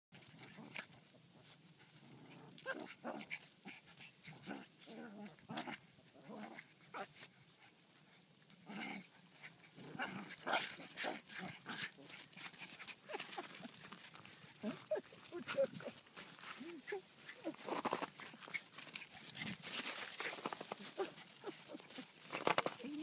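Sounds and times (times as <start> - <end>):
small dogs growling and yapping: 0.2 - 7.3, 8.6 - 23.0.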